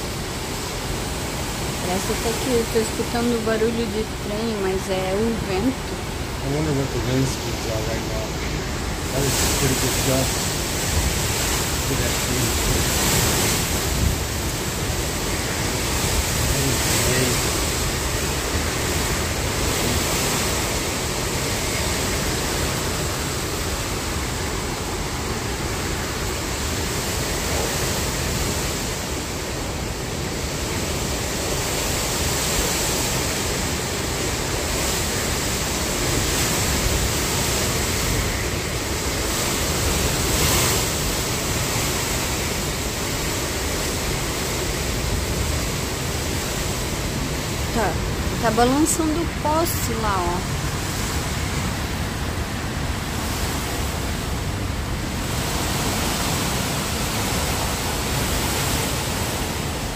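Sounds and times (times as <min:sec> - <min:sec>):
strong wind blowing: 0:00.0 - 0:59.9.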